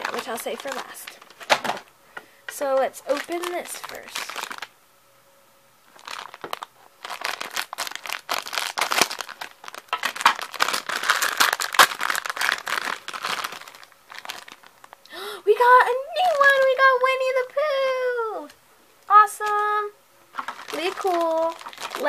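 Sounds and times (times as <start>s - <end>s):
plastic bag crinkling: 0.0s - 1.9s, 2.5s - 4.8s, 5.9s - 17.4s, 19.2s - 22.0s.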